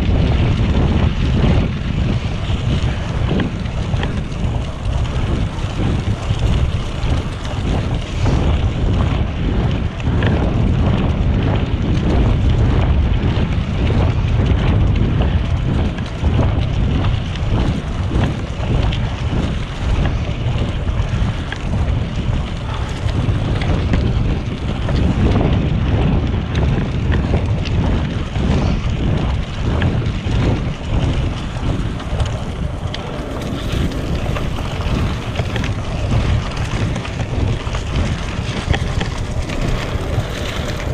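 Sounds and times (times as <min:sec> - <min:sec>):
bicycle knocks and rattles: 0:00.0 - 0:40.9
bike tyres rumbling on gravel: 0:00.0 - 0:40.9
wind buffeting microphone: 0:00.0 - 0:40.9.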